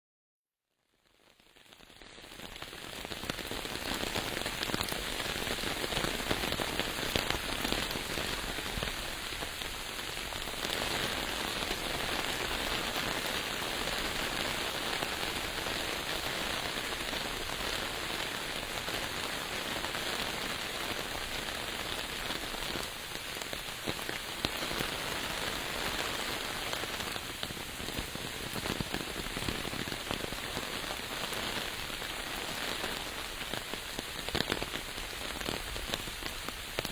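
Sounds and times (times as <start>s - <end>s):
rain falling: 1.3s - 36.9s.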